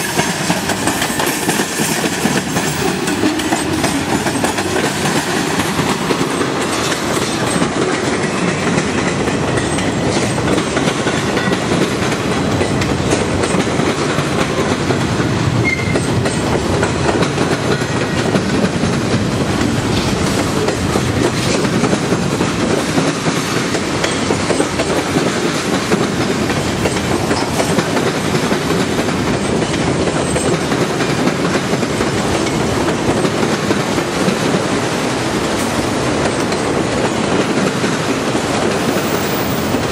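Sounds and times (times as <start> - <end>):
train wheels rolling on rail: 0.0 - 39.9.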